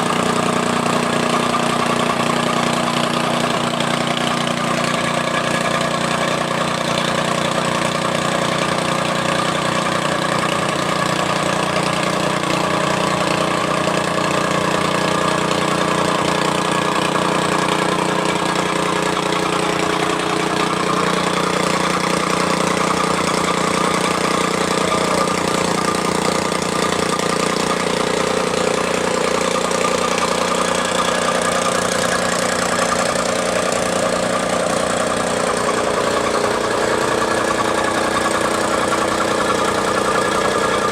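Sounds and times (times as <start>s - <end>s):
tamping rammer engine running: 0.0s - 40.9s.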